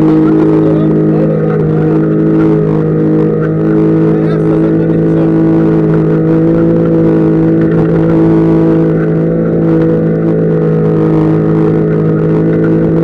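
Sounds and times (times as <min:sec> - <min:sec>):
engine running at high revs: 0:00.0 - 0:13.0.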